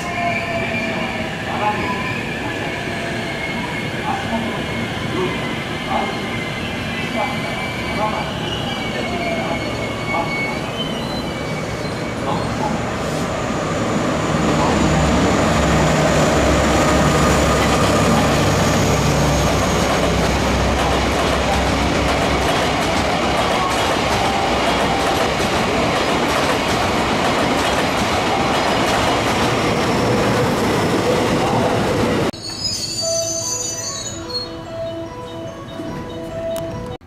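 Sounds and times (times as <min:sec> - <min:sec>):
diesel locomotive engine passing: 0:00.0 - 0:32.4
train cars rolling on rails: 0:00.9 - 0:32.9.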